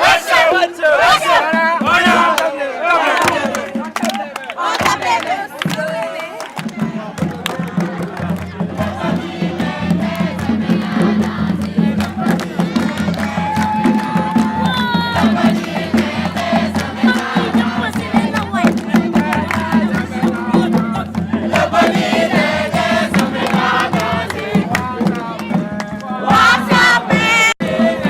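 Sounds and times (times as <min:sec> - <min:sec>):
crowd singing and chanting: 0:00.0 - 0:28.0
steady drumming: 0:00.0 - 0:28.0.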